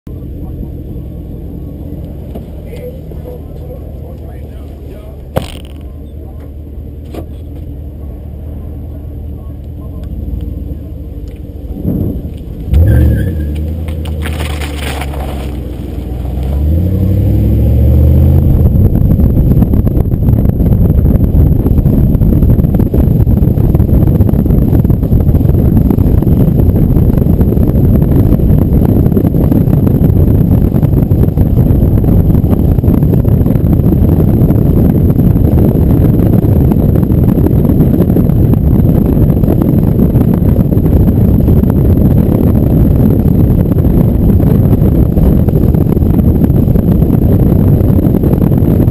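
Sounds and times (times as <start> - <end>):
car engine revving: 0.2 - 48.9
wind buffeting microphone: 0.2 - 48.9.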